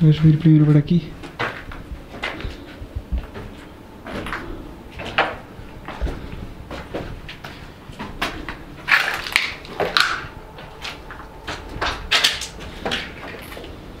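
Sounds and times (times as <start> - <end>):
footsteps crunching on debris: 1.2 - 13.8.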